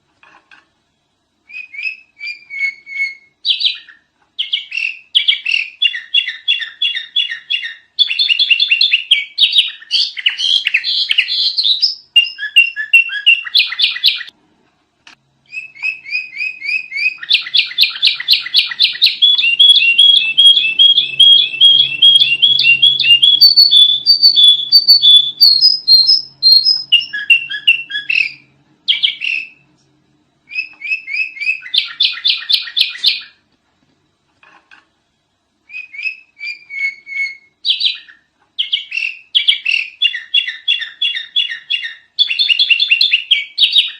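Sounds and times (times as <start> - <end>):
bulbul chattering and singing: 1.5 - 14.3, 15.5 - 29.6, 30.5 - 33.4, 35.7 - 43.9.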